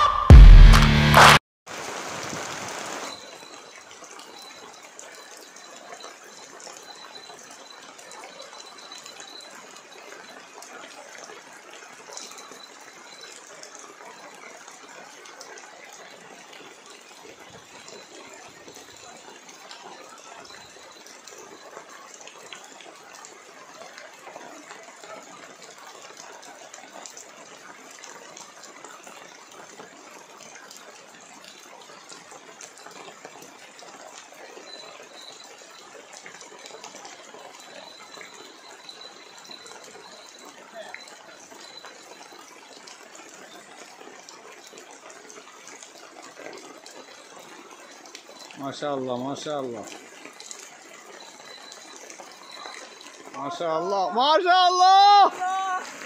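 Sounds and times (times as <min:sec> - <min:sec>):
water noise: 0:00.0 - 0:56.0.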